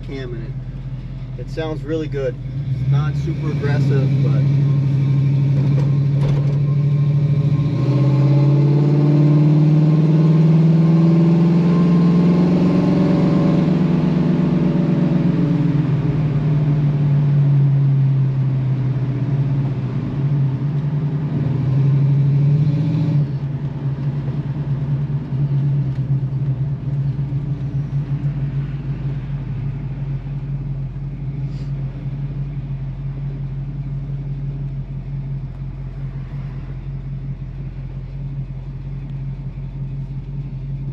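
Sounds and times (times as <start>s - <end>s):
car engine from inside: 0.0s - 40.9s.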